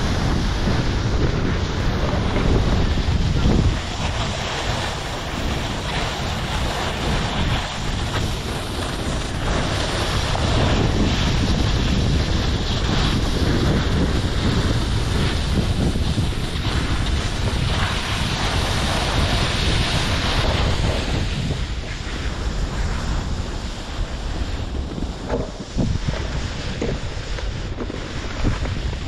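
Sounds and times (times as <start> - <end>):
skis hissing on snow: 0.0 - 29.0
wind buffeting microphone: 0.0 - 29.0.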